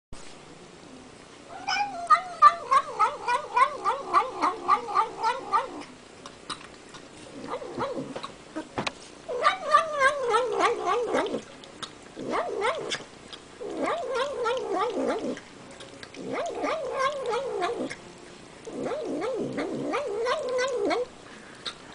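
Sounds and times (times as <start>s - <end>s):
cat warbling while eating: 1.5s - 8.7s, 9.3s - 18.0s, 18.6s - 21.1s.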